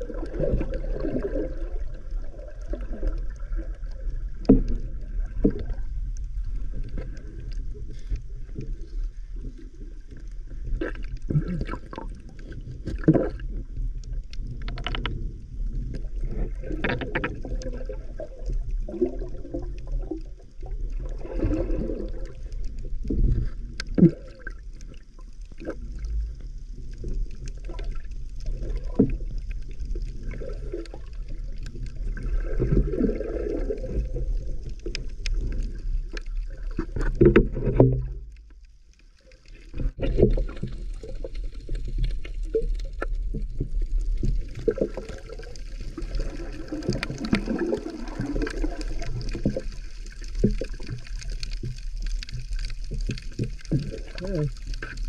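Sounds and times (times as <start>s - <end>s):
low underwater rumble: 0.0s - 55.0s
muffled underwater churning: 0.0s - 55.0s.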